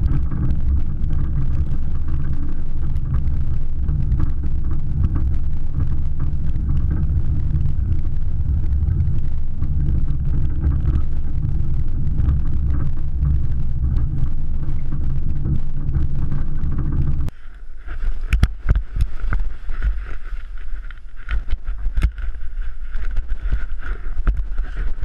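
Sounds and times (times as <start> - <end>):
vehicle engine rumble: 0.0 - 25.0
wind: 0.0 - 25.0.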